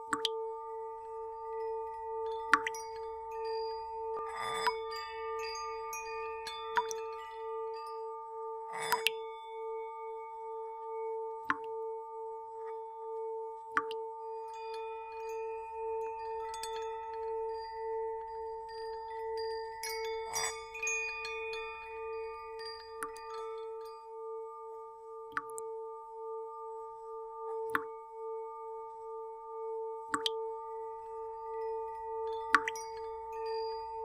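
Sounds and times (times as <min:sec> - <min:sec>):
chime-like tinkling notes: 0:00.0 - 0:34.0.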